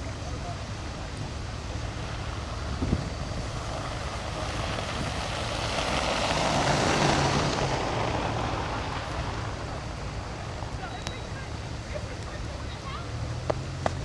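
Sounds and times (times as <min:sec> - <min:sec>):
vehicle driving past: 0:00.0 - 0:14.0.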